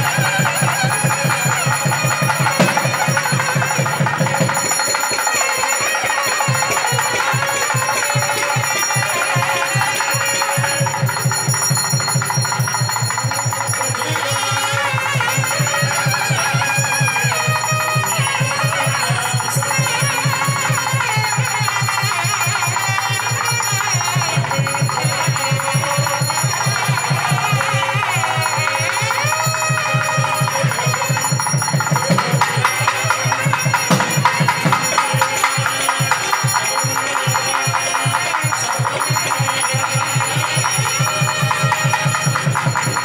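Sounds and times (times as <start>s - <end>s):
bells ringing: 0.0s - 43.0s
fast even drum beat: 0.0s - 43.0s
wavering melody: 0.0s - 43.0s.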